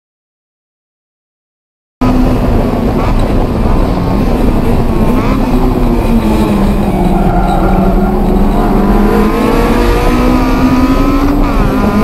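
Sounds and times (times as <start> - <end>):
car engine running hard: 2.0 - 12.0
wind and road noise: 2.0 - 12.0.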